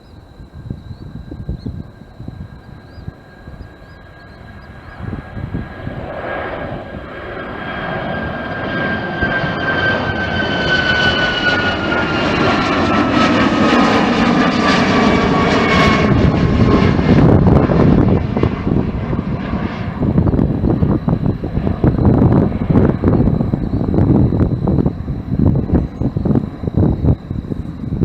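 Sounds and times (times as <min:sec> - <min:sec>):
high engine whine: 0:00.0 - 0:28.0
jet airliner passing: 0:00.0 - 0:28.0
wind buffeting microphone: 0:00.0 - 0:28.0.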